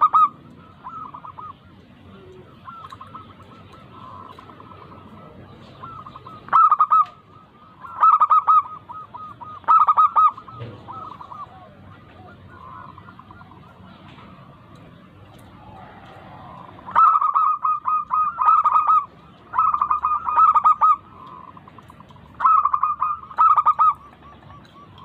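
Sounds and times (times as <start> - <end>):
doves cooing: 0.0 - 25.0.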